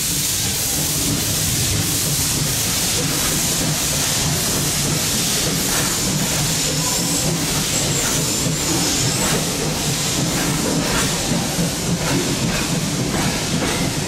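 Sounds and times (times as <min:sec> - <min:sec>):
continuous steam hiss: 0:00.0 - 0:14.0
train carriages rumbling on rails: 0:00.0 - 0:14.0.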